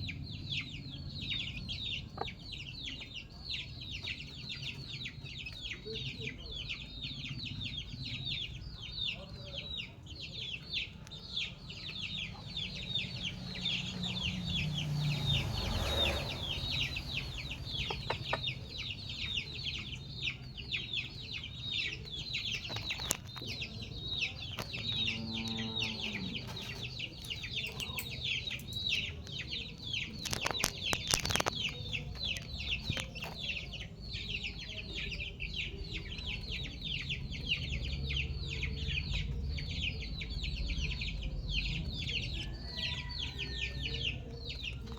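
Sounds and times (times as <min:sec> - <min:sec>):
chickens chirping: 0:00.0 - 0:44.9.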